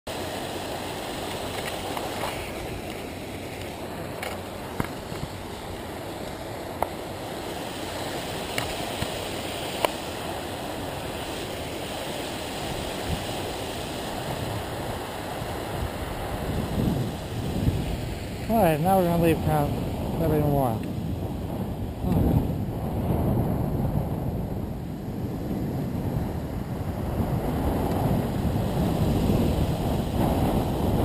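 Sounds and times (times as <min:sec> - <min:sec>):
wind rush on microphone: 0:00.1 - 0:31.0.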